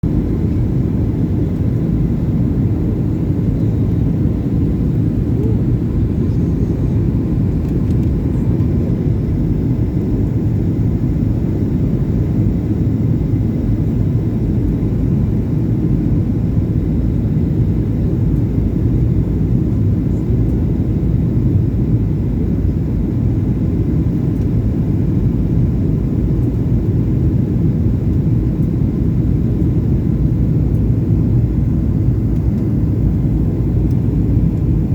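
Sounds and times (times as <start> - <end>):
airliner engines rumbling: 0.0 - 34.9.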